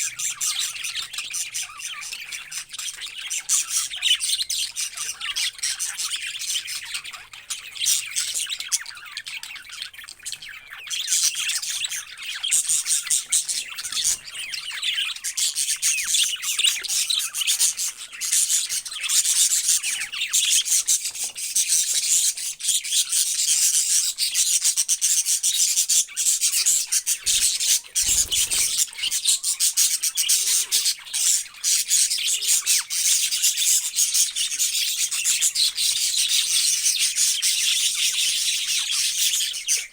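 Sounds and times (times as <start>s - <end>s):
parrots chattering: 0.0s - 39.8s.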